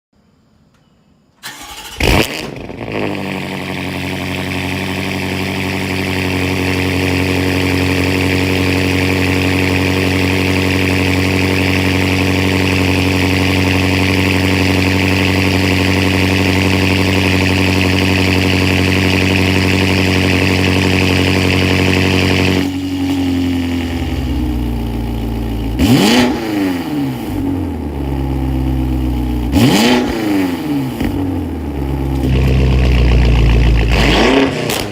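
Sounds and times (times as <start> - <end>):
vehicle engine starting and idling: 1.4 - 34.9.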